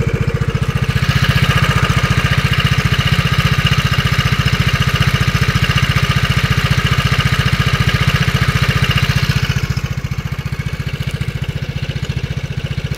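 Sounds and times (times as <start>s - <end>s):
cooling fan rattle: 0.0s - 12.9s
scooter engine idling: 0.0s - 12.9s.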